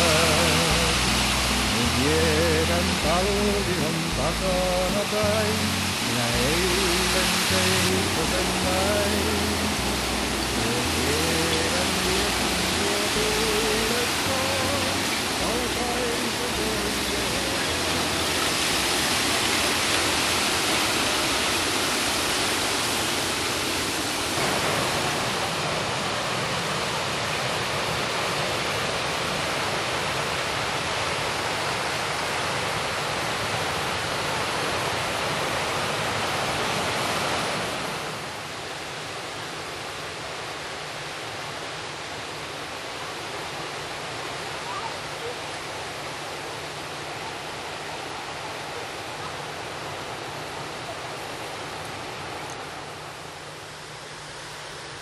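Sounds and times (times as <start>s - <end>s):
river rushing with ice floes: 0.0s - 55.0s.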